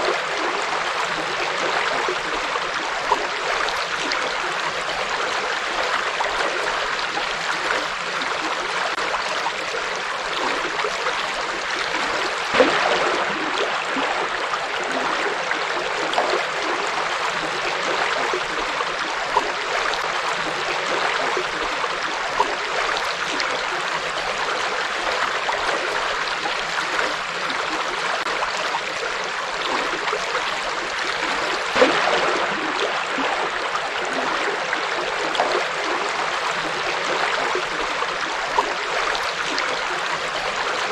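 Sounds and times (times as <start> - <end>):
water splashing and gurgling: 0.0 - 40.9.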